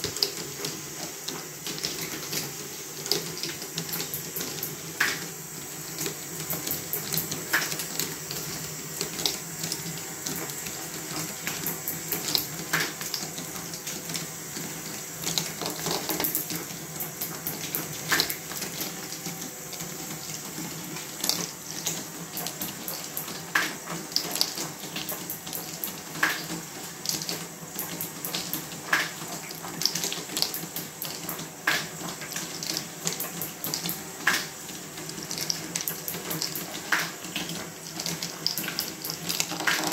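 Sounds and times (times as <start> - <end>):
faint machine hum: 0.0 - 39.9.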